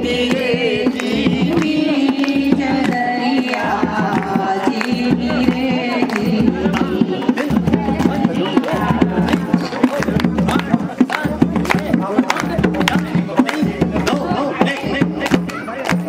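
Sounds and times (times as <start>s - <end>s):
hand-drum strokes: 0.0s - 16.0s
voices singing devotional song: 0.0s - 16.0s.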